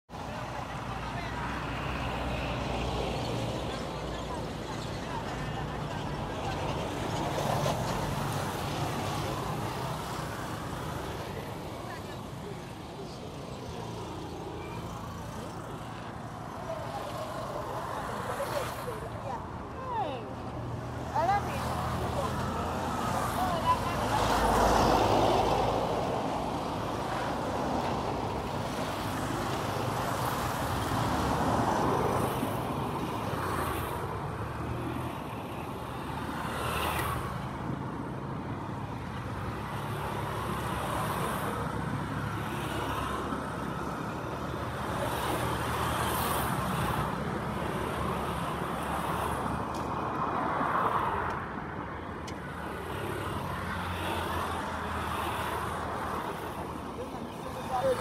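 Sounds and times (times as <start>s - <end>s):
cars trucks and motorcycles passing: 0.1s - 58.0s.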